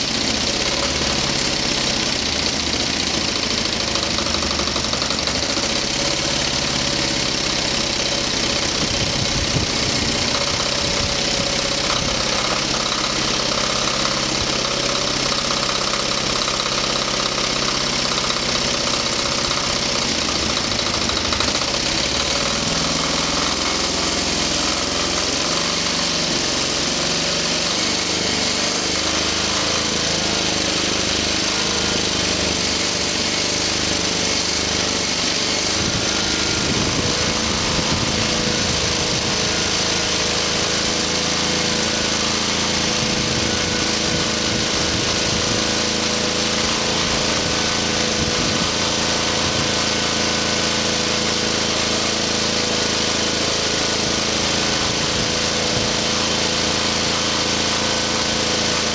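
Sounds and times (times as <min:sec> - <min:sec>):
diesel generator running: 0:00.0 - 0:58.9.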